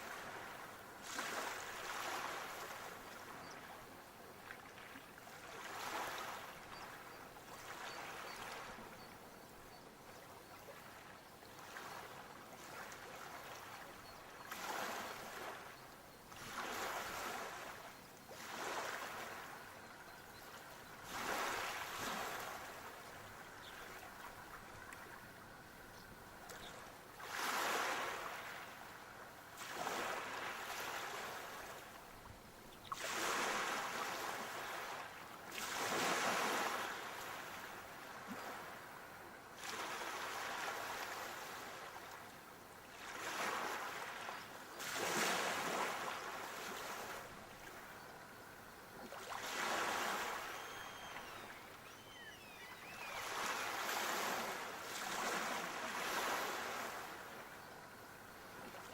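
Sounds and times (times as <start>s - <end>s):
sea waves breaking on shore: 0.0s - 3.8s, 4.4s - 9.2s, 10.5s - 25.7s, 26.4s - 32.2s, 32.8s - 58.9s.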